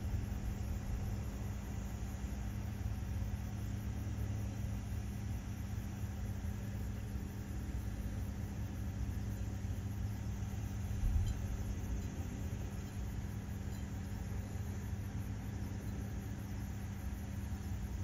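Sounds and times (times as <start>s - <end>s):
constant low hum: 0.0s - 18.0s
low engine rumble: 0.0s - 18.0s.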